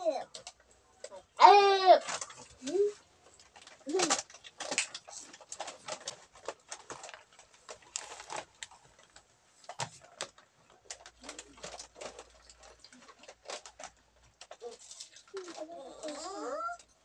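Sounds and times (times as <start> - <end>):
plastic snack packets crinkling: 0.1 - 17.0.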